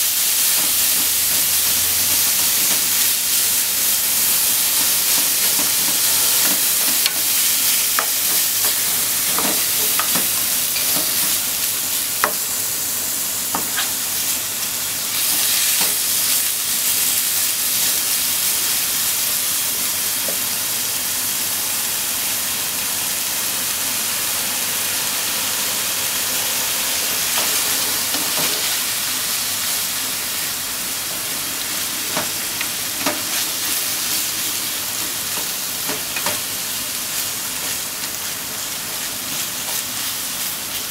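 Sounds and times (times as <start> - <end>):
meat sizzling in a frying pan: 0.0 - 40.9.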